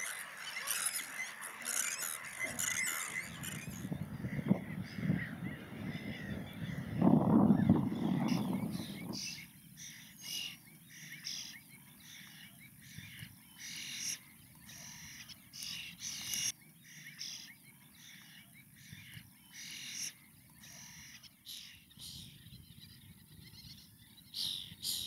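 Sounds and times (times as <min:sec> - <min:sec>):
birds making short harsh calls: 0:00.0 - 0:22.4.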